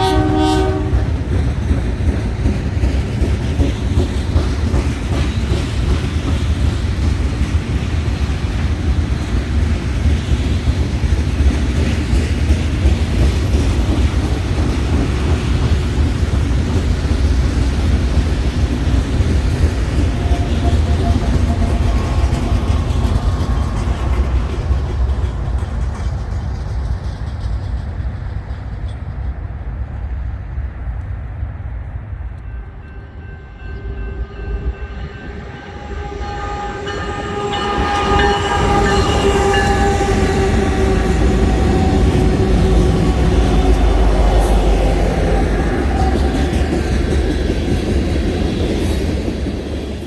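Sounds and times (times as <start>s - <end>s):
train rumbling past: 0.0s - 50.0s
wheels clacking over rail joints: 0.1s - 29.4s, 35.5s - 50.0s.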